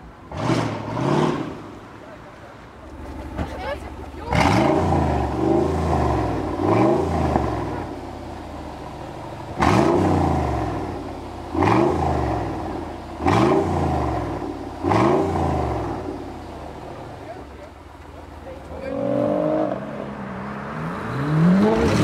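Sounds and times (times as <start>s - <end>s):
engine revving and idling: 0.0s - 1.8s, 2.9s - 22.0s.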